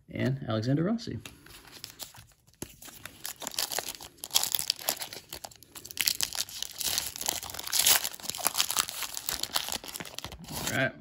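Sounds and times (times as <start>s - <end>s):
foil wrapper tearing and crinkling: 1.6s - 10.8s.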